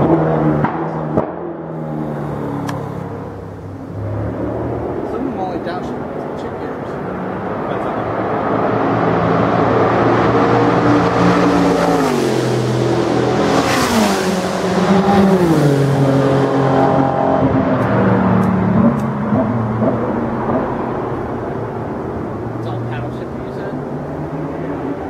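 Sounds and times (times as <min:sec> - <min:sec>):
race car engine passing: 0:00.0 - 0:25.0.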